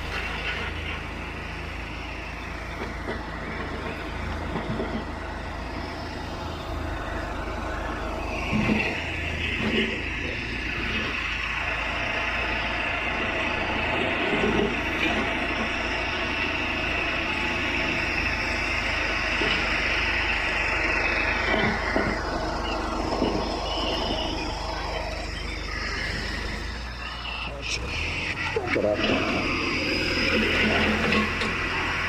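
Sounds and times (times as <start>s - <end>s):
backhoe engine whining: 0.0s - 32.0s.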